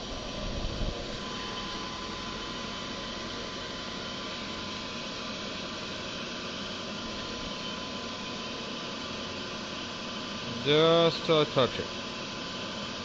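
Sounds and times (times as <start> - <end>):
milling machine spindle humming: 0.0 - 13.0.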